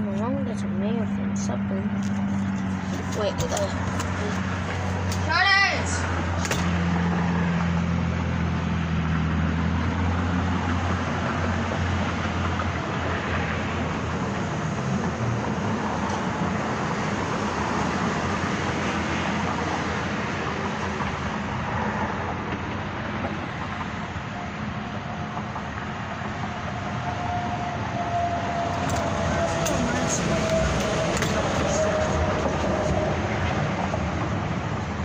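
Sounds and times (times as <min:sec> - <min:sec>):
constant rushing noise: 0:00.0 - 0:35.0
low engine hum: 0:00.0 - 0:35.0.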